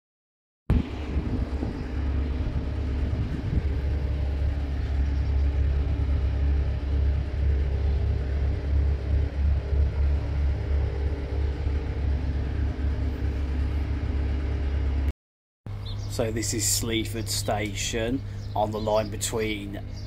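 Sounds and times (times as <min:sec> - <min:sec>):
faint hum: 0:00.7 - 0:15.1, 0:15.7 - 0:20.0
low engine rumble: 0:00.7 - 0:15.1, 0:15.7 - 0:20.0.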